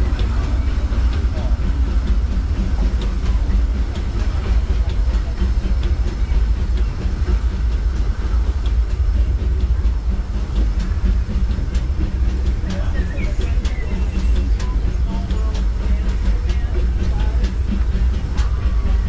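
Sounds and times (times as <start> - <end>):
steam train low rumble: 0.0 - 19.0
wheels clicking on track: 0.0 - 19.0.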